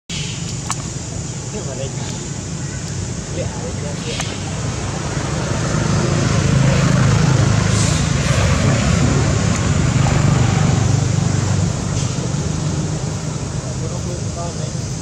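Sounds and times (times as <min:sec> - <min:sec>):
motor vehicle noise: 0:00.1 - 0:15.0.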